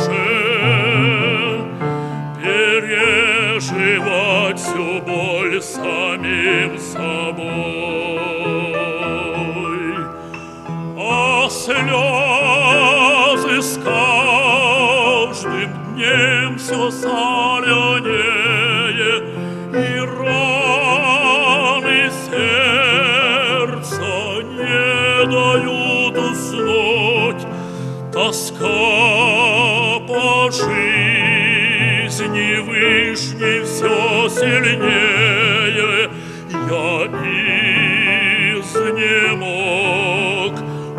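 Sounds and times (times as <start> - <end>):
man singing opera: 0.0 - 40.9
piano accompaniment: 0.0 - 40.9.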